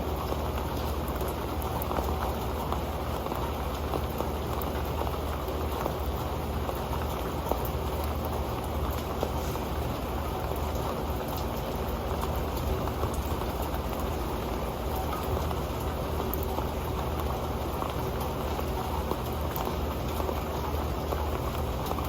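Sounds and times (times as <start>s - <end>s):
rain pattering on a metal pan: 0.0s - 22.0s.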